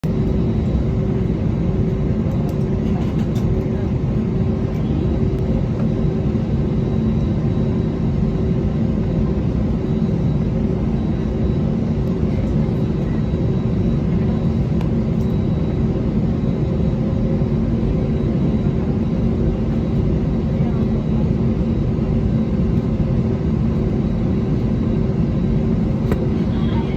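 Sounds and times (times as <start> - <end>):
jet engines rumbling in cabin: 0.0 - 26.9.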